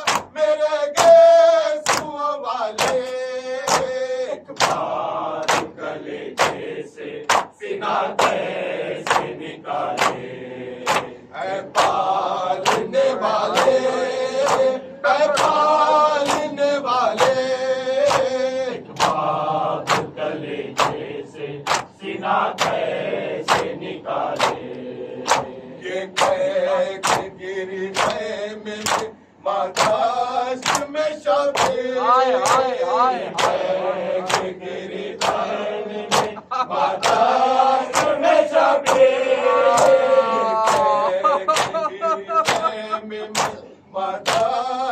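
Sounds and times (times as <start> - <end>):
men chanting together: 0.0 - 44.9.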